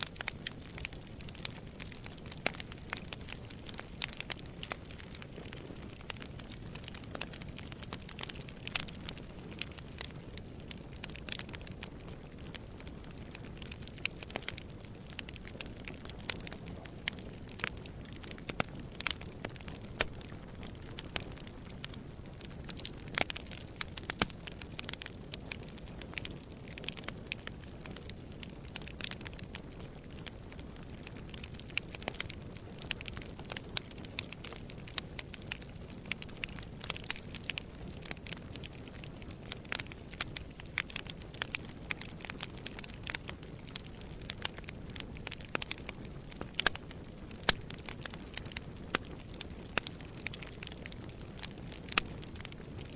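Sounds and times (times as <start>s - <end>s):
flames rumbling: 0.0s - 52.9s
wood fire crackling and popping: 0.0s - 52.9s.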